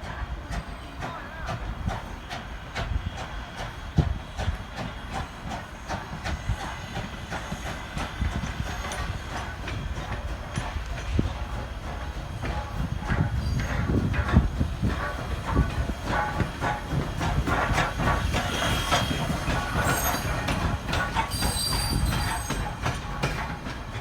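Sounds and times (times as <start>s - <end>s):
steam hissing: 0.0s - 24.0s
train low rumble: 0.0s - 24.0s
wheels clicking and clanking: 0.0s - 24.0s.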